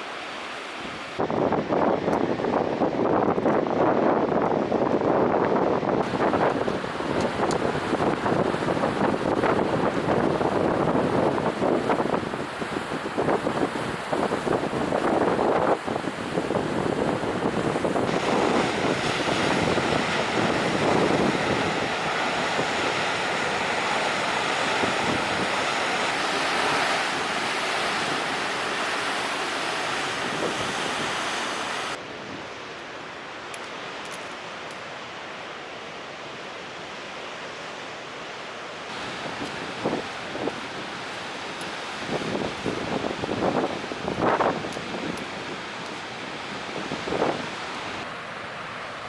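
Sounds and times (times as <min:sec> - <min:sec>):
wind buffeting microphone: 0:01.2 - 0:32.5, 0:38.9 - 0:48.1
ocean surf rushing: 0:04.0 - 0:49.0.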